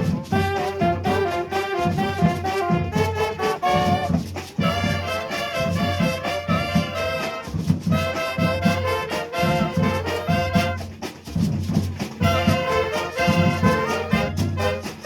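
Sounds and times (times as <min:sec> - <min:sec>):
brass horns playing melody: 0:00.0 - 0:11.1, 0:12.2 - 0:15.0
drum beat: 0:00.0 - 0:15.0.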